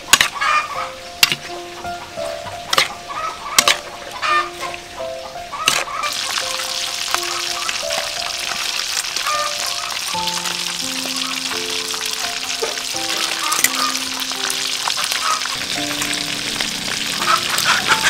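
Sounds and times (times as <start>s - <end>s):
background music: 0.0s - 18.0s
fish sizzling on grill: 0.0s - 18.0s.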